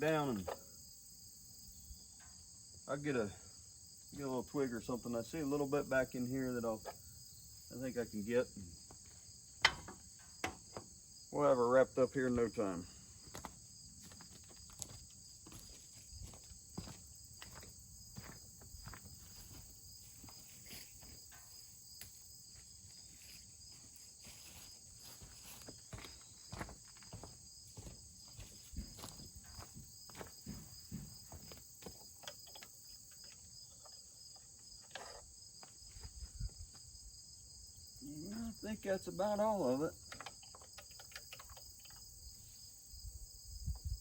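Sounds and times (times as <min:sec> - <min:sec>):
high insect chirping: 0:00.0 - 0:44.0.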